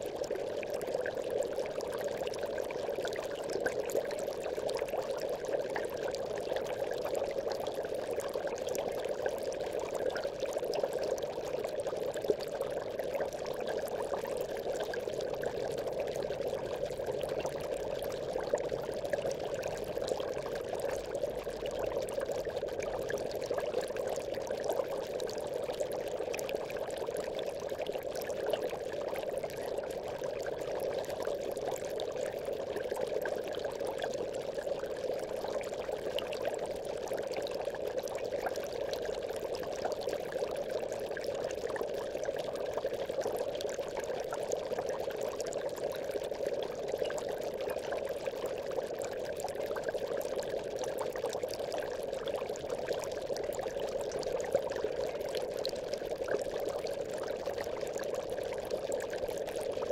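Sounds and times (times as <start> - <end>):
aquarium air bubbling: 0.0 - 59.9.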